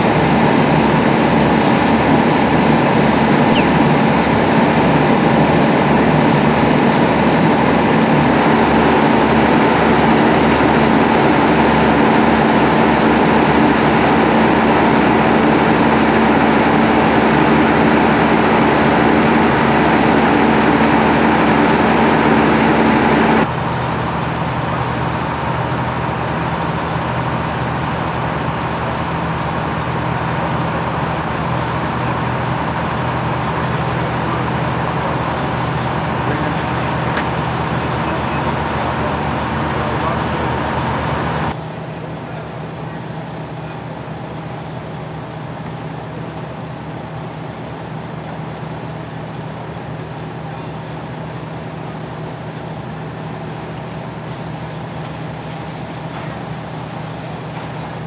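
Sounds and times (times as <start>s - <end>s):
heavy engine humming: 0.0s - 58.0s.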